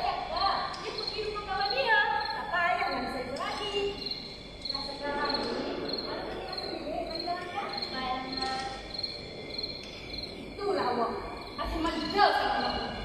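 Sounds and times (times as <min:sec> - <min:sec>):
insect chirping: 0:00.0 - 0:13.0.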